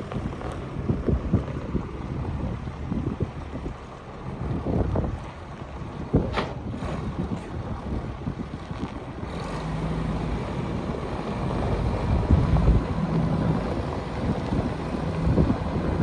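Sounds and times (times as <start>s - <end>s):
tractor diesel engine running: 0.0s - 16.0s
wind buffeting microphone: 0.0s - 16.0s.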